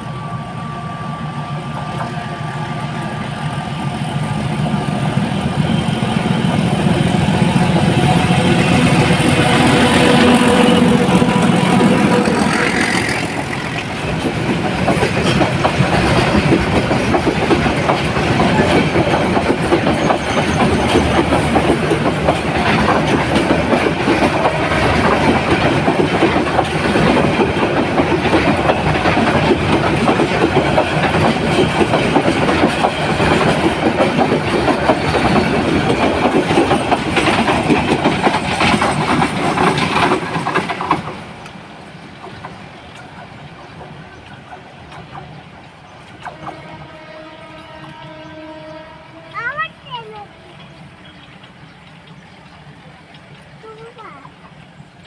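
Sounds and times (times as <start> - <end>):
train wheels clattering: 1.7 - 55.0.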